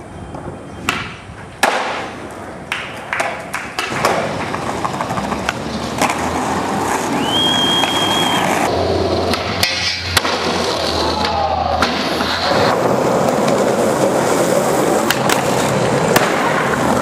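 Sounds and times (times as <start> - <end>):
skateboard rolling: 0.0 - 17.0
skateboard clacks: 0.3 - 17.0.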